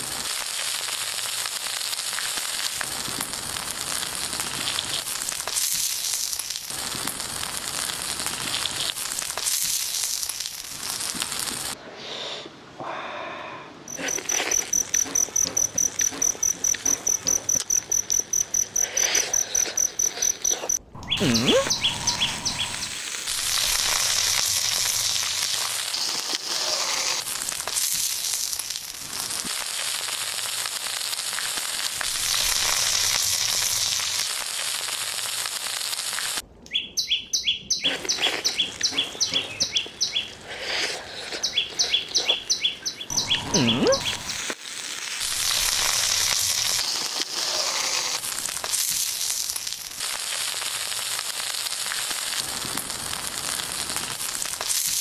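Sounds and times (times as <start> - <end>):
food sizzling in oil: 0.0 - 11.8, 13.9 - 36.4, 43.1 - 55.0.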